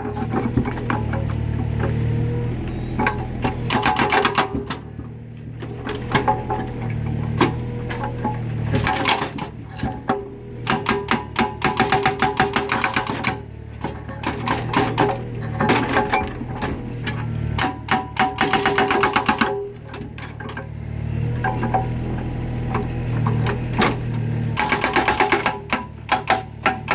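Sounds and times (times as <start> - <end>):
diesel engine running: 0.0 - 26.9
hydraulic breaker hammering concrete: 3.1 - 5.0, 6.0 - 20.8, 21.4 - 26.9.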